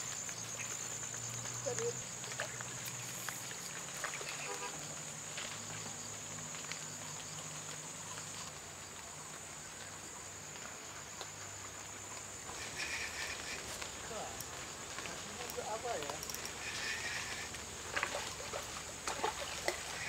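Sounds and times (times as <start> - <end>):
faint ticks: 0.0 - 20.0
insects droning: 0.0 - 20.0.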